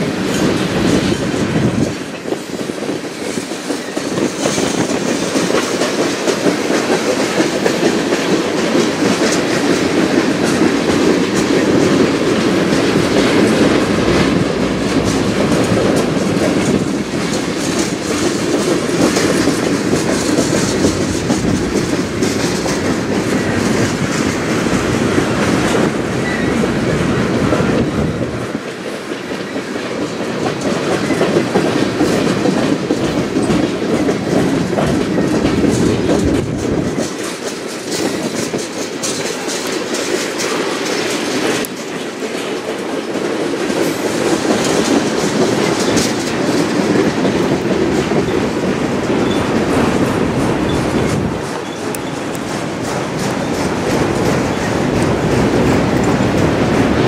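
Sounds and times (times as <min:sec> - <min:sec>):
train wheels rolling on rail: 0:00.0 - 0:57.0.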